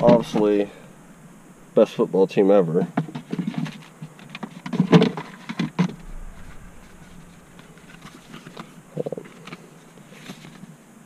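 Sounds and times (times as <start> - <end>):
steady low hum: 0.0 - 4.2, 5.8 - 11.0.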